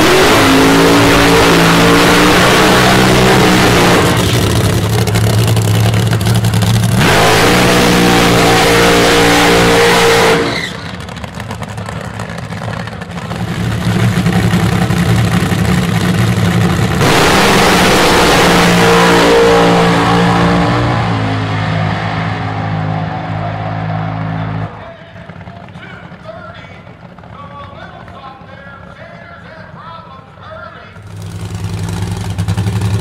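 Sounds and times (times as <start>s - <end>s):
dragster engines at full throttle: 0.0s - 33.0s.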